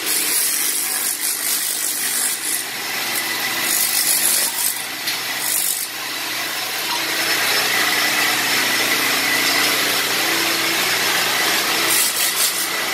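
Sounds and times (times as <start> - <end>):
vacuums rushing with high whine: 0.0 - 12.9.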